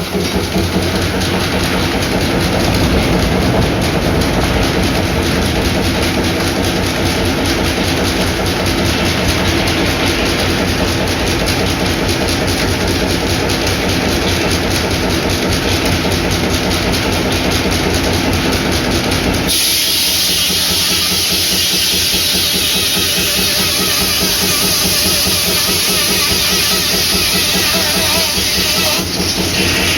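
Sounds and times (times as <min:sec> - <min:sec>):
engine running with even beat: 0:00.0 - 0:29.9.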